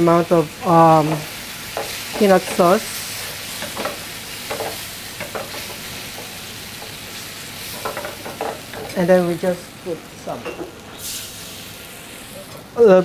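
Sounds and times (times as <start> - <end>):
food sizzling in hot oil: 0.0 - 12.8.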